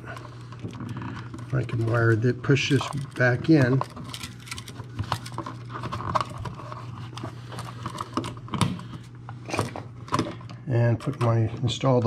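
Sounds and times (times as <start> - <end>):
outlet clicking and scraping in box: 0.0 - 10.0
steady low hum: 0.0 - 12.0.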